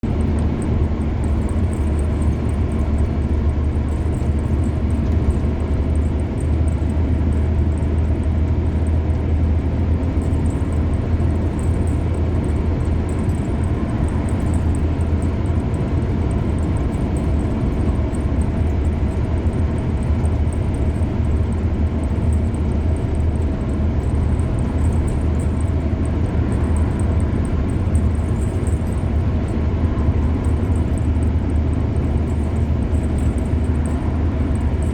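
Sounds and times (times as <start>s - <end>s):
car driving on highway: 0.0s - 34.9s.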